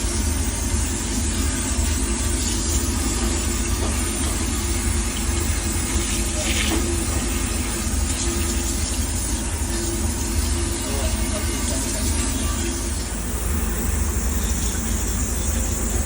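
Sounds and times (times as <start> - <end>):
refrigeration unit humming: 0.0 - 16.0.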